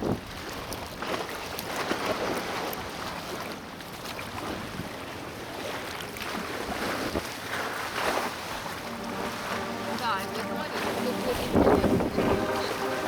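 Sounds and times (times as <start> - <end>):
water splashing around a raft: 0.0 - 13.0.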